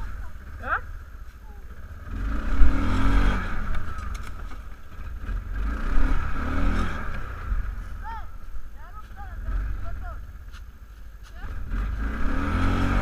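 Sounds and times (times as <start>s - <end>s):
atv engine revving: 0.0s - 8.5s, 9.2s - 10.5s, 11.4s - 13.0s.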